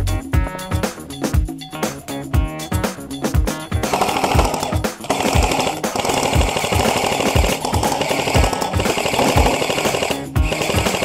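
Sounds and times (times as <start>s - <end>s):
loud music with drum beat: 0.0s - 11.0s.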